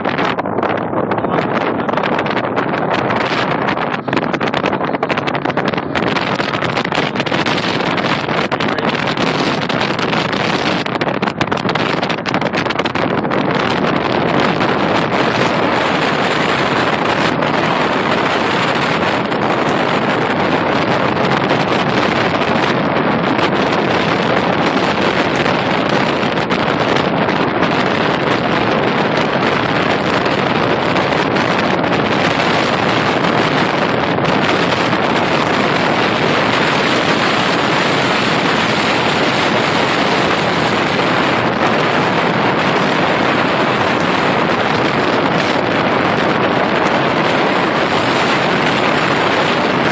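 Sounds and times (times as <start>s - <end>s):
car road noise: 0.0s - 49.9s
wind rushing over microphone: 0.0s - 49.9s.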